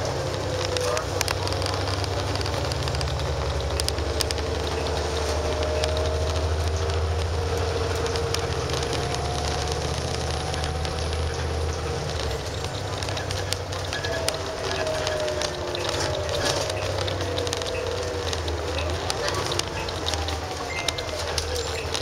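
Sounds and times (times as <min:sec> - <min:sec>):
bus diesel engine rumble: 0:00.0 - 0:22.0.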